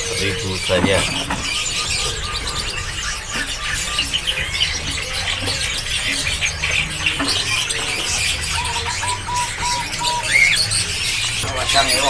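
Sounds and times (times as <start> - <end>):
short evenly spaced bird notes: 0.0 - 12.0
songbirds chirping: 0.0 - 12.0.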